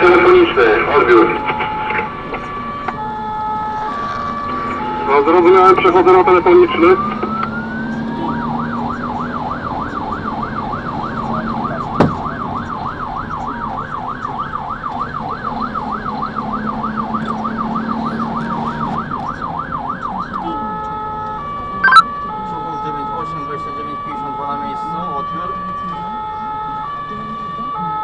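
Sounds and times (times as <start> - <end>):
fire engine siren wailing: 0.0 - 28.0.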